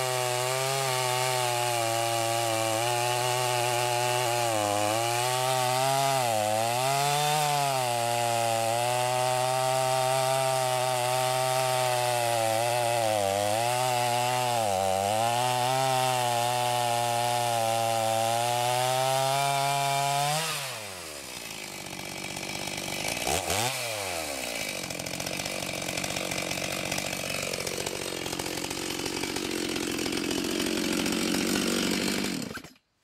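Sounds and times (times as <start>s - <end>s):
chainsaw idling: 0.0s - 32.8s
chainsaw cutting log: 0.0s - 32.9s.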